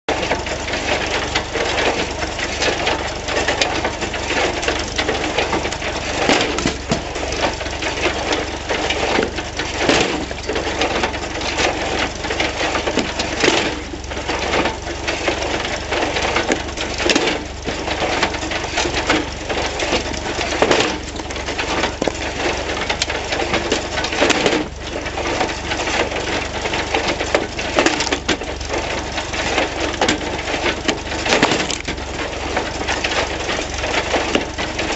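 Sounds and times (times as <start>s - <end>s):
low machinery drone: 0.1s - 34.9s
wood cracking and splintering: 0.1s - 34.9s.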